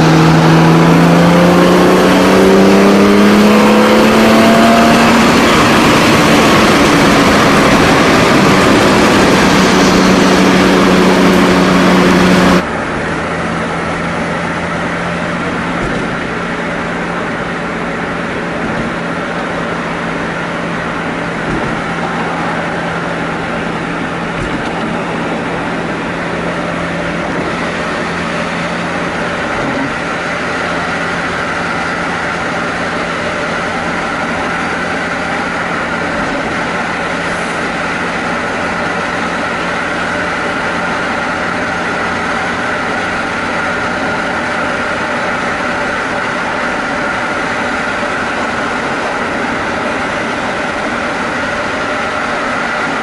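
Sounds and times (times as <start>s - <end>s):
car engine drone: 0.0s - 53.0s.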